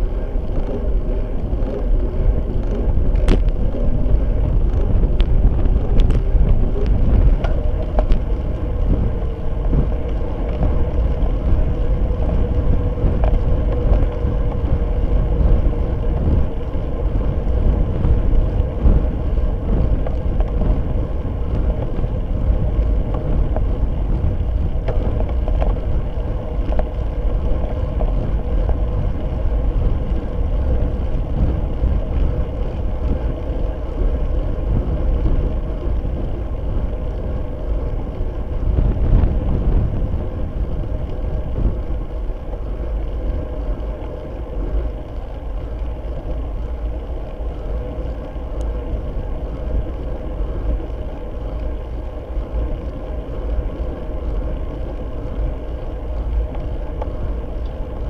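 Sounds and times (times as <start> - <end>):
faint steady hum: 0.0 - 58.0
road and tyre rumble: 0.0 - 58.0
wind on microphone: 0.0 - 58.0.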